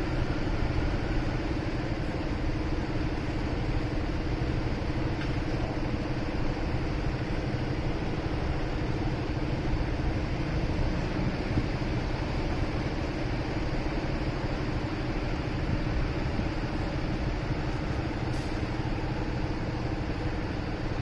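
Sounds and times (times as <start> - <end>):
road and traffic noise: 0.0 - 21.0.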